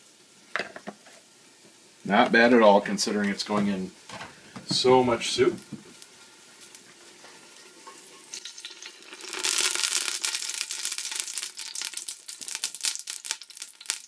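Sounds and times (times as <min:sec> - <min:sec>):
hot oil sizzling and crackling: 0:00.0 - 0:14.0.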